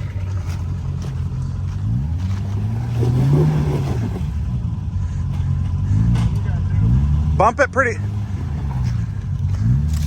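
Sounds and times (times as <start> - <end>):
utility vehicle engine revving: 0.0 - 10.0.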